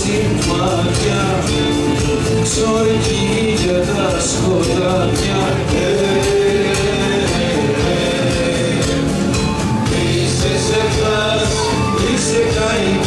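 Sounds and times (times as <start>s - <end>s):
bass: 0.0s - 13.0s
drum kit: 0.0s - 13.0s
strummed acoustic guitar: 0.0s - 13.0s.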